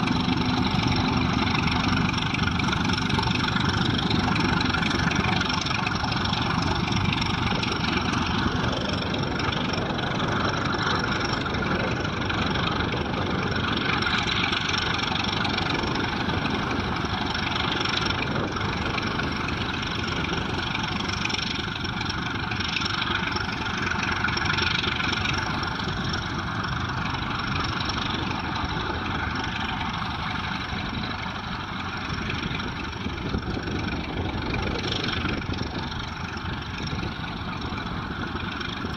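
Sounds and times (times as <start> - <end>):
diesel locomotive engine working hard: 0.0 - 38.9.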